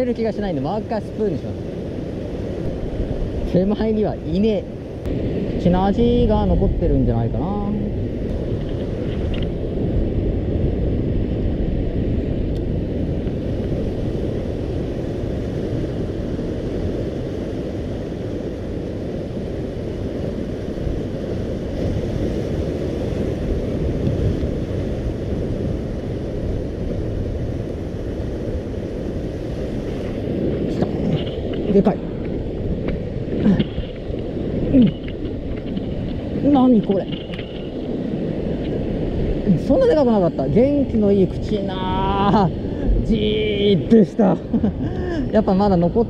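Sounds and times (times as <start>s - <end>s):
sea surf on rocky shore: 0.0s - 46.0s
wind buffeting microphone: 0.0s - 46.0s.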